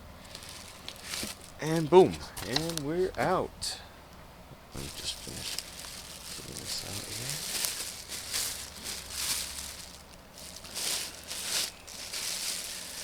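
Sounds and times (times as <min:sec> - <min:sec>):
packaging rustling: 0:00.2 - 0:03.3, 0:04.8 - 0:13.0.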